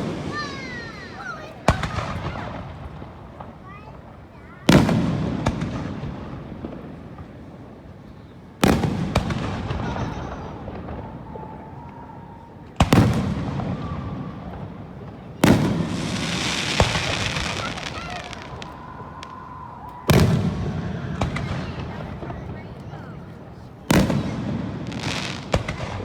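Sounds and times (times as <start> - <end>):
fireworks booming overhead: 0.0 - 26.0.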